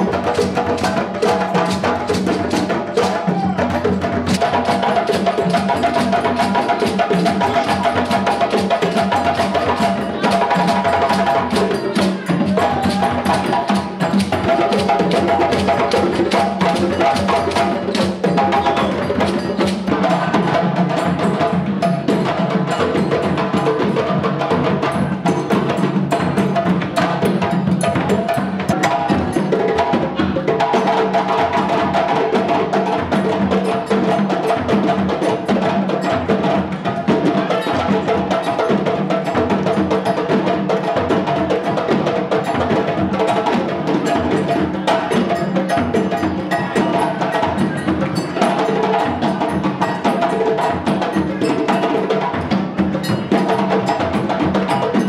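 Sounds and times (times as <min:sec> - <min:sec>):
music with busy percussion beat: 0:00.0 - 0:55.0.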